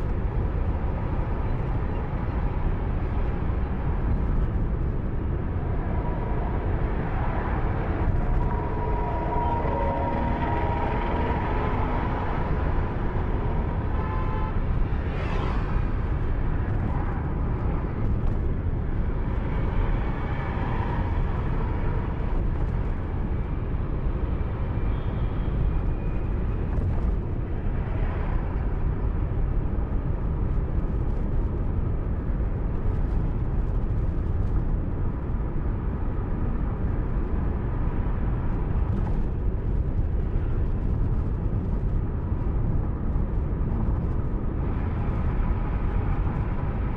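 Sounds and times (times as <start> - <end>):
car road and wind noise: 0.0 - 46.9.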